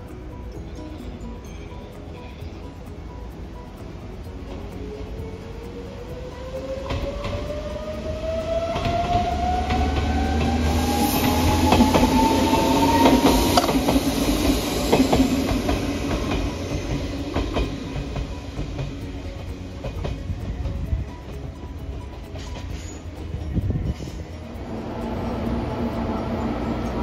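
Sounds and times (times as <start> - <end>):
wheels clicking over rail joints: 0.0 - 27.0
train whine rising in pitch: 4.6 - 27.0.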